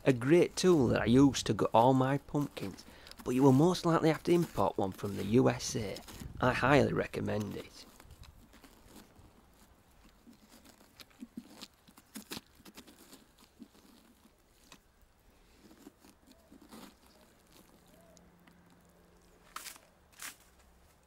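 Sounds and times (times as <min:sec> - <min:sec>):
wet scraping inside pumpkin: 0:00.0 - 0:21.0.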